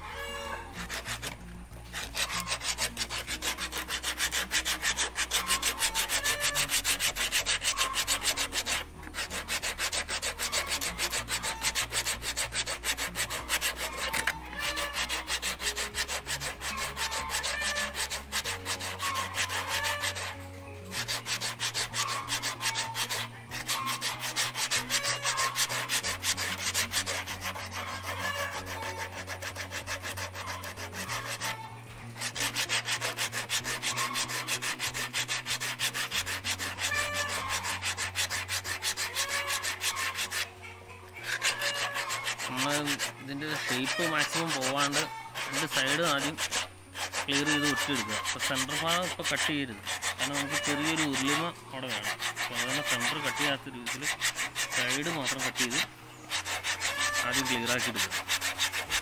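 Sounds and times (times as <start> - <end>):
sandpaper scratching: 0.0 - 59.0.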